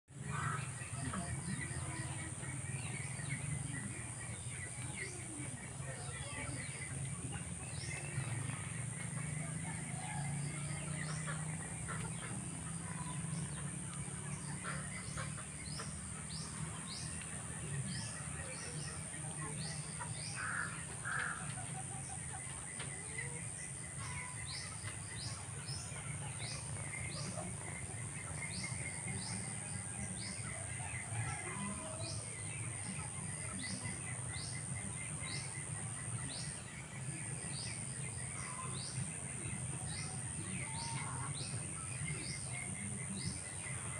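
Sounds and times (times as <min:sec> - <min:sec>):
low background noise: 0:00.1 - 0:43.9.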